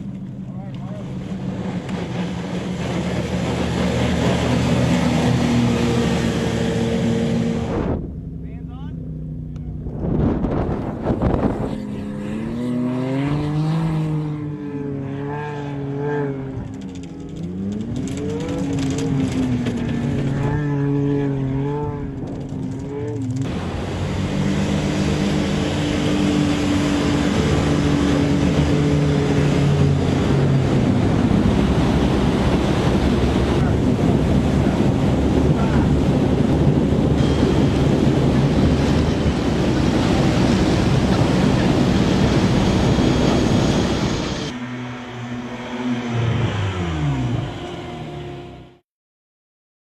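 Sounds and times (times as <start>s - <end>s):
engine revving: 0.0s - 48.8s
rushing noise of vehicle at speed: 0.0s - 48.8s.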